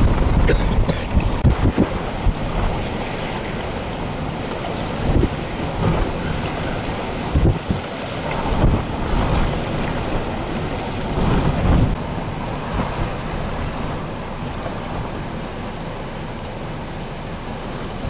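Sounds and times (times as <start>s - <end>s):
choppy water: 0.0s - 18.0s
wind gusts buffeting microphone: 0.0s - 18.0s.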